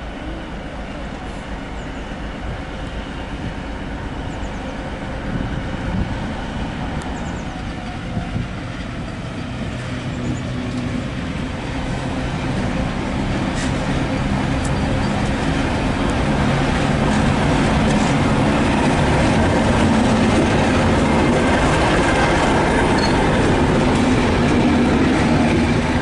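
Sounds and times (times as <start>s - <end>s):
locomotive diesel engine running: 0.1s - 26.0s.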